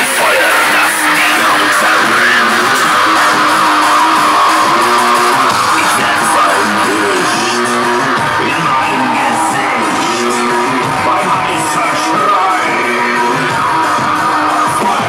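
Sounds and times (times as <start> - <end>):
distorted synth lead: 0.0 - 15.0
drum and bass music: 0.0 - 15.0.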